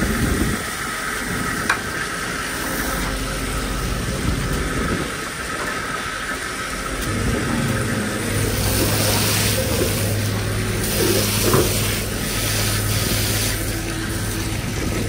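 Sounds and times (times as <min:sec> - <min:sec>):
boat engine drone: 0:00.0 - 0:15.0.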